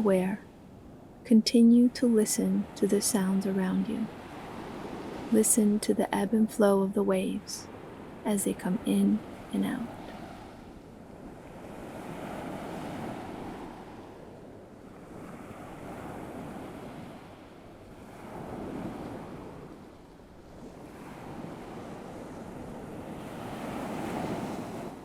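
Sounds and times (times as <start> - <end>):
waves washing on shore: 2.0 - 25.0.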